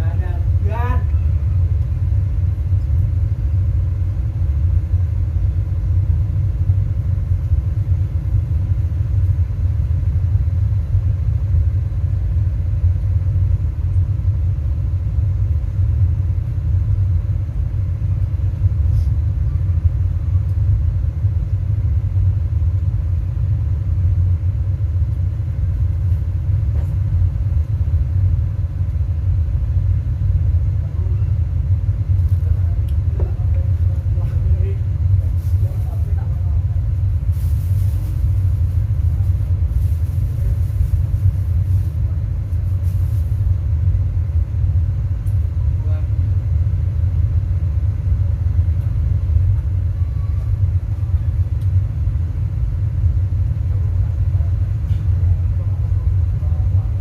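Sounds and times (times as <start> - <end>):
deep bass rumble from subwoofers: 0.0 - 57.0.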